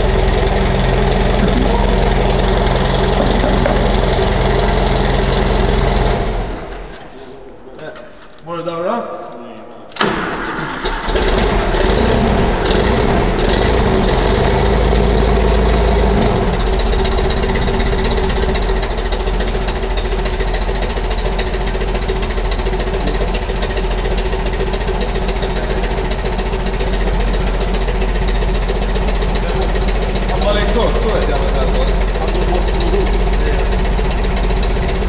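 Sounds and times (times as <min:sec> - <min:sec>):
van engine idling with knocking: 0:00.0 - 0:06.9, 0:11.1 - 0:35.0.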